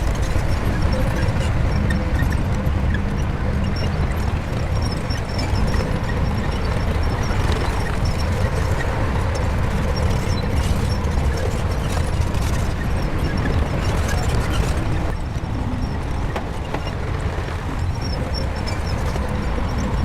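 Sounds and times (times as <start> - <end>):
bulldozer diesel engine rumbling: 0.0 - 20.0.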